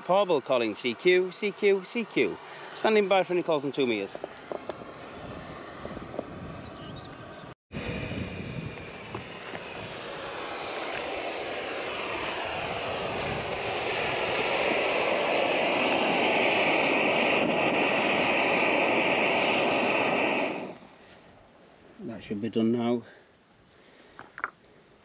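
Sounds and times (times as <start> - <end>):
camping stove burner hissing: 0.0 - 21.1.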